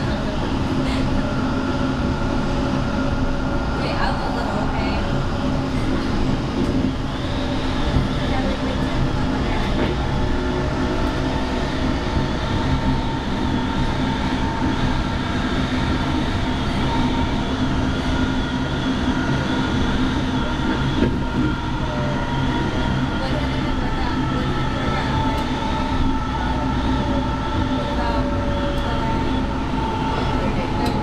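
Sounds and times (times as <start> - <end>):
train motor hum: 0.0 - 31.0
train wheels rumbling on track: 0.0 - 31.0.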